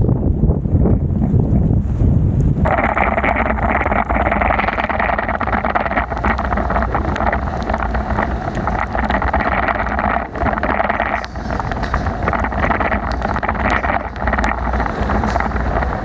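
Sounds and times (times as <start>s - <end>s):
wind rumbling on microphone: 0.0s - 16.0s
raindrops ticking: 2.6s - 16.0s.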